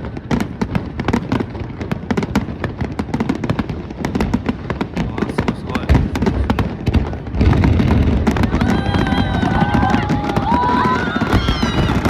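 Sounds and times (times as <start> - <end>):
fireworks crackling and popping: 0.0 - 12.0
fireworks low booms: 0.0 - 12.0.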